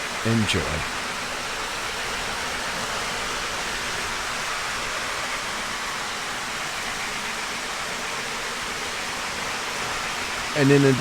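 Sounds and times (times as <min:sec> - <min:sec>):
model trains running on track: 0:00.0 - 0:11.0.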